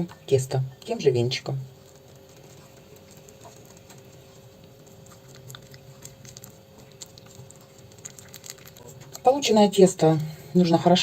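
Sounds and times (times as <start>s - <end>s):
faint steady hum: 0.0s - 11.0s
whisk squishing thick batter: 0.8s - 10.2s.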